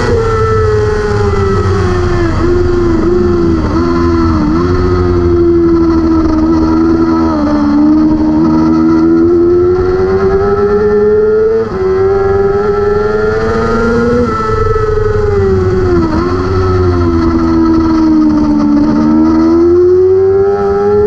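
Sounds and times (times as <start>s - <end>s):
race motorcycle engine at high revs: 0.0s - 21.0s.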